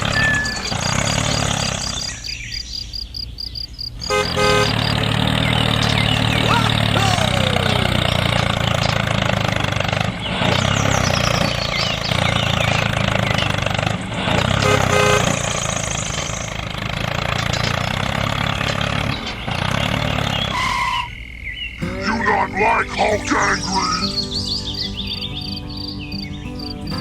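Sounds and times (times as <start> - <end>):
tractor engine running: 0.0 - 2.3, 4.0 - 21.0, 21.8 - 27.0.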